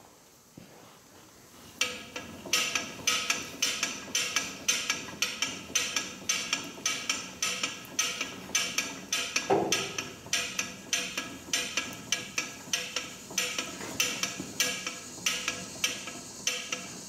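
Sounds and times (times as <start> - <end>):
sharp ringing ticks: 1.8 - 17.0.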